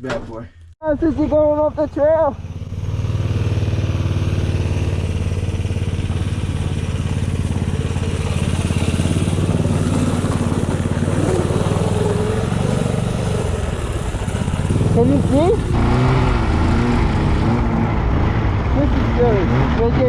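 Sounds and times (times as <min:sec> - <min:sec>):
snowmobile engine running: 0:01.0 - 0:20.0.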